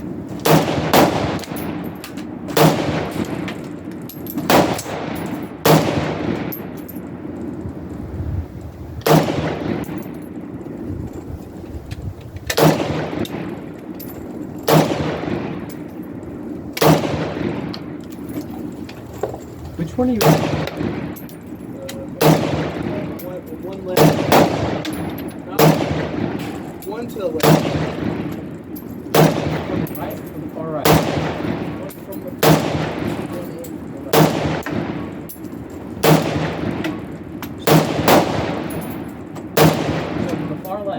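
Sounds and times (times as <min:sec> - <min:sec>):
rifle shots echoing: 0:00.0 - 0:07.6, 0:09.0 - 0:10.9, 0:12.5 - 0:18.9, 0:19.9 - 0:40.9.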